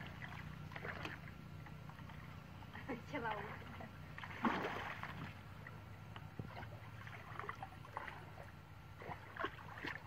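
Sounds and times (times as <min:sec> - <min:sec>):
shallow water splashing: 0:00.0 - 0:10.0.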